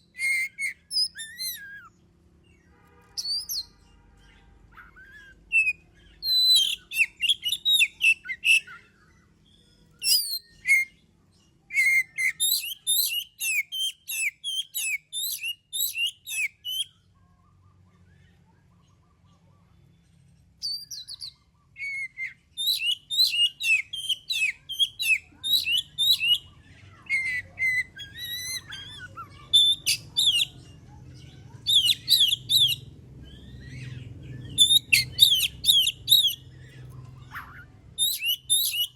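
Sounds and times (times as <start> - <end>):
bird singing whistled notes: 0.0 - 2.0, 3.1 - 11.0, 11.7 - 17.0, 20.6 - 30.6, 31.5 - 38.9.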